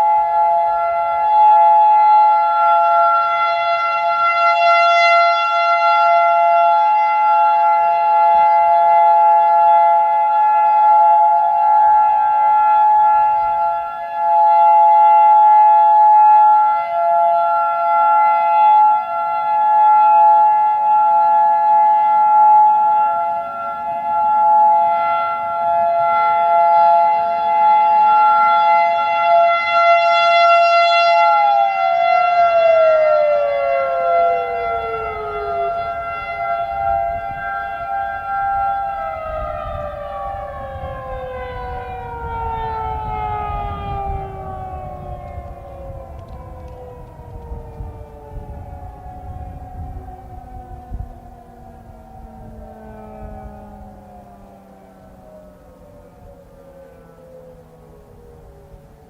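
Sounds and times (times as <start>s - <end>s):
outdoor warning sirens: 0.0s - 59.0s
siren winding down: 0.0s - 59.0s.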